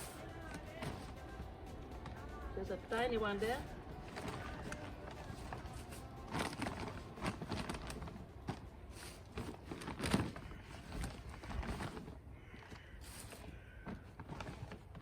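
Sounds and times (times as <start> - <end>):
hands rummaging through soil: 0.0 - 1.4, 3.3 - 15.0.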